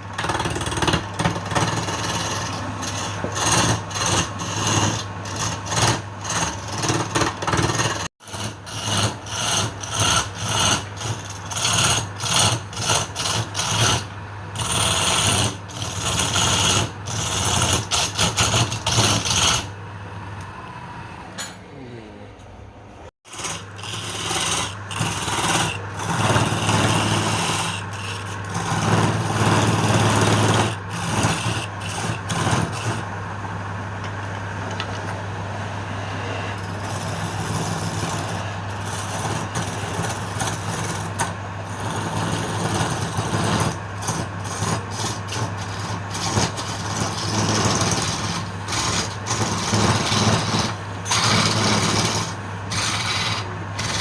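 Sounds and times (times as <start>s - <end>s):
tool scraping spinning wood: 0.0s - 19.8s, 23.2s - 35.2s, 36.0s - 54.0s
lathe motor hum: 0.0s - 20.5s, 23.3s - 54.0s.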